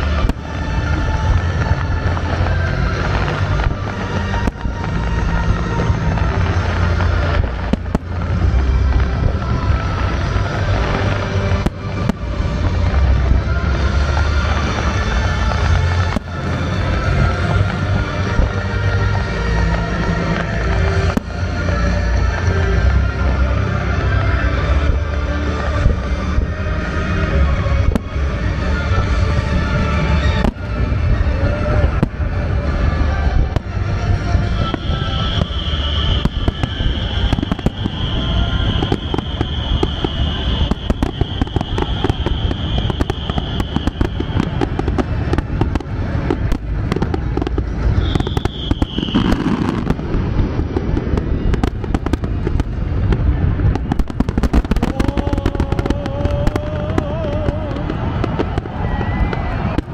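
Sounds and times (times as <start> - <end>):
fireworks bursting and crackling: 0.0 - 59.9
long high firework whistle: 0.0 - 59.9.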